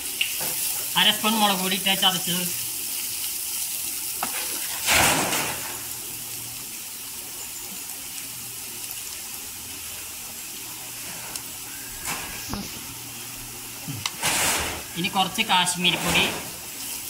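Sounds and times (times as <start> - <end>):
onions and spices sizzling in oil: 0.0 - 17.0.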